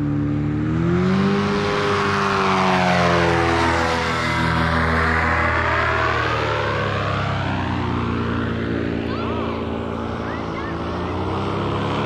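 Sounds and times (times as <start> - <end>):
paramotor engine droning past: 0.0 - 12.0.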